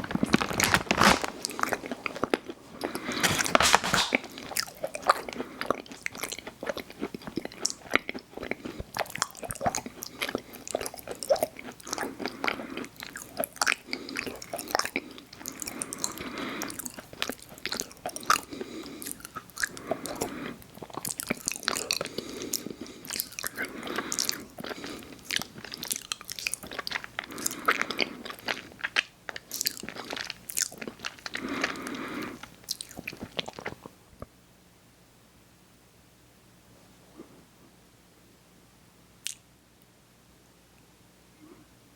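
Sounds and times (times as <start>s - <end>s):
chewing soft cookies: 0.0s - 34.4s, 39.2s - 40.0s.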